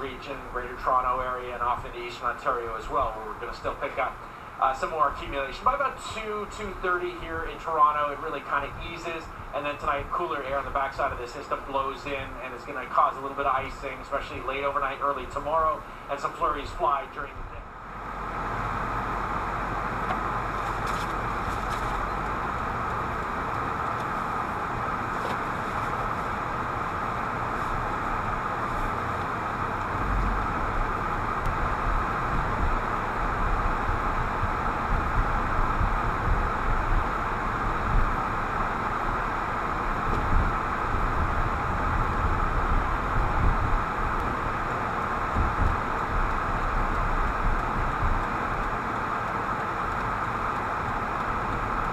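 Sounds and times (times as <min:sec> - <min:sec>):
low bumps from road surface: 0:00.0 - 0:51.9
road noise inside moving car: 0:00.0 - 0:51.9.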